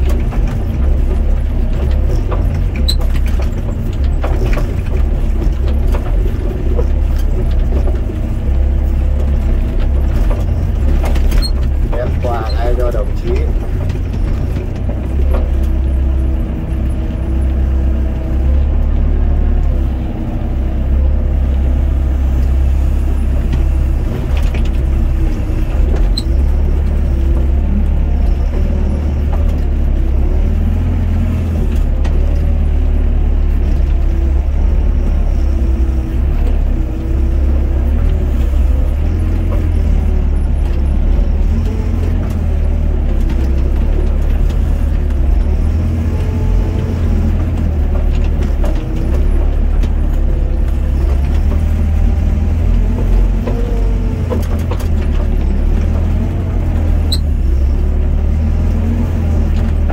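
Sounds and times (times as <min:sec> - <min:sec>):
excavator diesel engine and hydraulics: 0:00.0 - 0:59.9.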